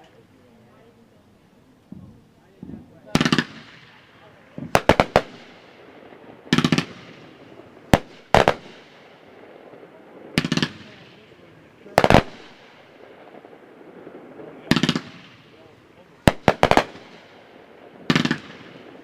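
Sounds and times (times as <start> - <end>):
fireworks cracking: 0.0 - 19.0.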